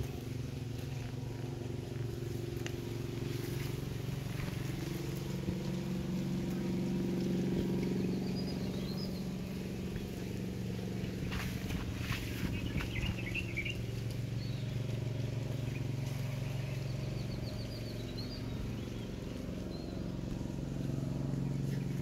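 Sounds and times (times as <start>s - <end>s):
low mechanical hum: 0.0s - 22.0s
small birds chirping: 0.0s - 22.0s.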